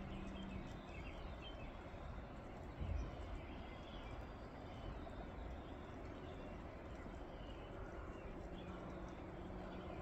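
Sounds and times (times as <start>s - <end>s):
low wind rumble: 0.0s - 10.0s.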